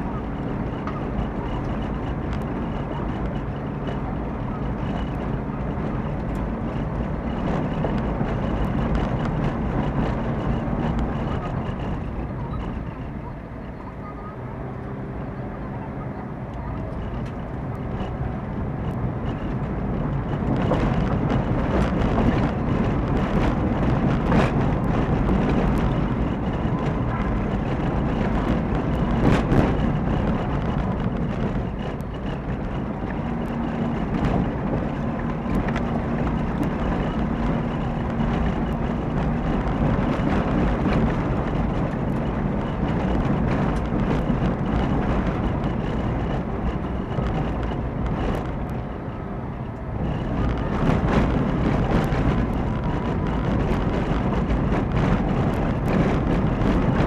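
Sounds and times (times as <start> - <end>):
car engine and tyre rumble: 0.0 - 57.0
clicks and knocks from road: 0.1 - 13.2, 16.5 - 57.0.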